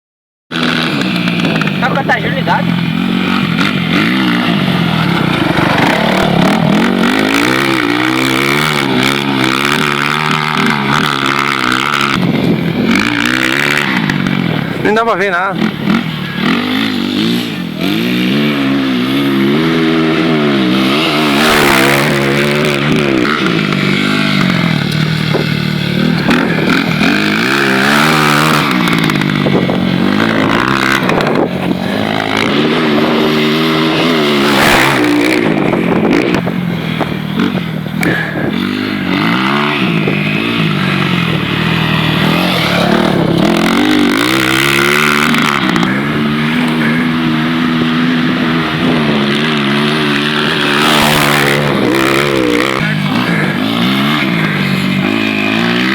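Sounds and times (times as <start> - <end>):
motorcycle engine revving: 0.5 - 55.9.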